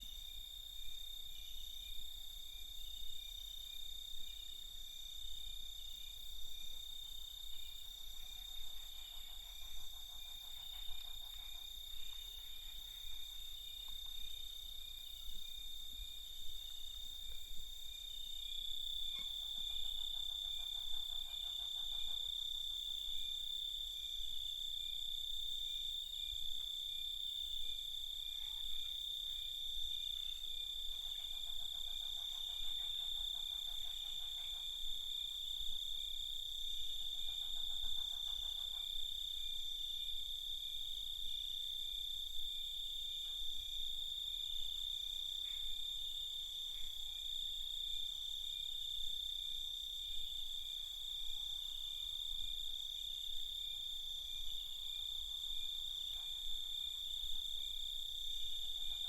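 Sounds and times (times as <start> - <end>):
low pulsing insect trill: 0.0 - 59.0.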